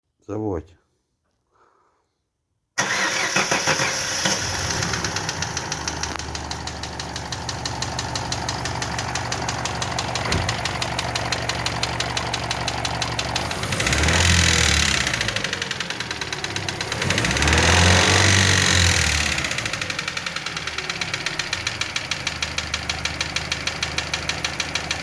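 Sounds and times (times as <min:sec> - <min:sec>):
car engine idling with rapid knock: 0:04.4 - 0:25.0.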